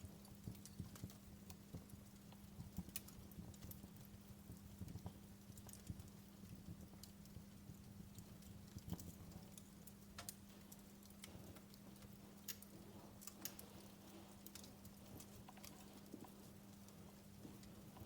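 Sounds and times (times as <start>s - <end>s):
faint low hum: 0.0s - 18.0s
wood fire crackling: 0.0s - 18.0s.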